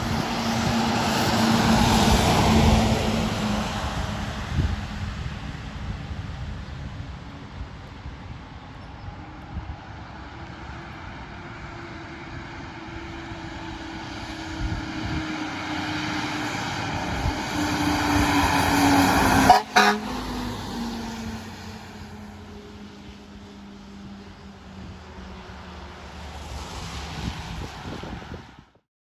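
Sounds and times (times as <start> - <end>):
fire engine driving past: 0.0 - 28.8.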